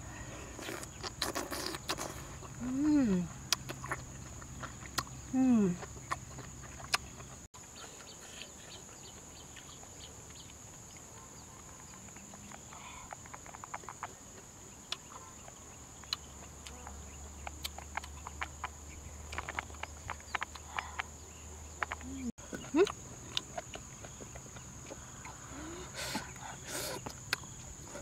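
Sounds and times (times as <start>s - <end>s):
open-mouthed chewing: 0.0s - 28.0s.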